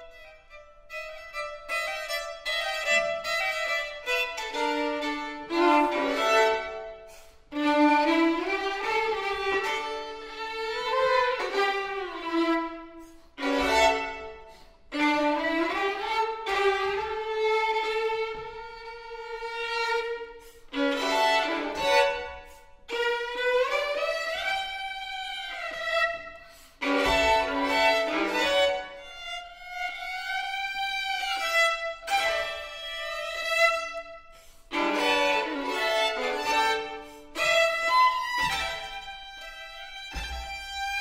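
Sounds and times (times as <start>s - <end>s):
two violins playing: 0.0s - 41.0s.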